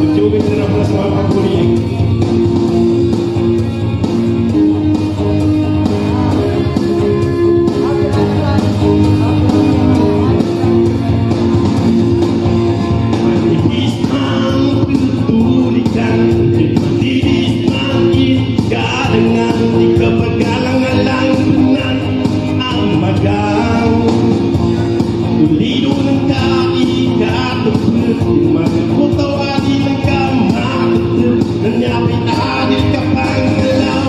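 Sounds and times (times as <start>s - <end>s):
man singing into microphone: 0.0s - 2.2s, 5.8s - 10.8s, 13.0s - 34.0s
electronic keyboard with steady beat: 0.0s - 34.0s.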